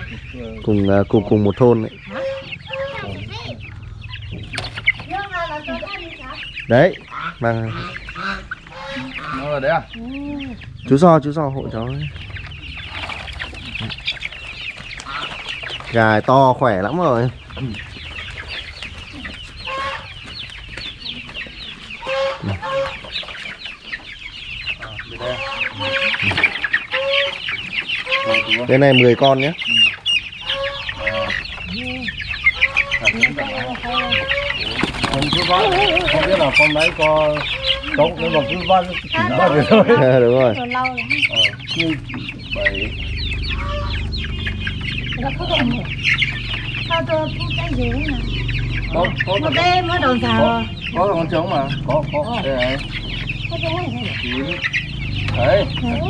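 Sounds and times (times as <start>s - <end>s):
louder lower chicken calls: 0.0s - 16.2s, 17.1s - 56.0s
chicks cheeping: 0.0s - 56.0s.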